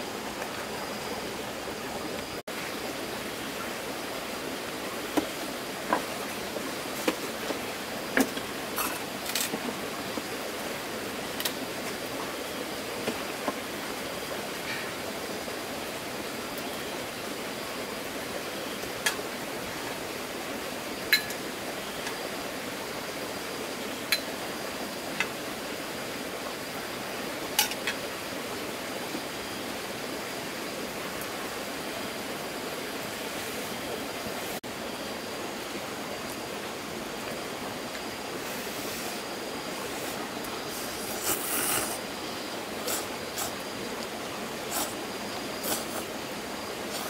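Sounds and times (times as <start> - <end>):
steady rushing hiss: 0.0 - 47.0.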